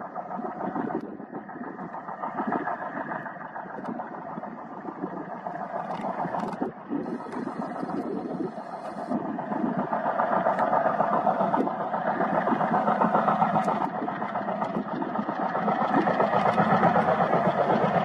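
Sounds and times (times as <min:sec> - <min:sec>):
diesel locomotive engines chugging: 0:00.0 - 0:18.0.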